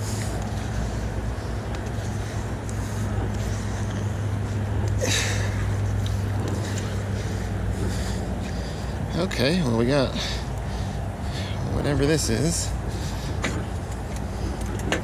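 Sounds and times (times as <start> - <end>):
low engine hum: 0.0 - 15.0
outdoor rushing noise: 0.0 - 15.0.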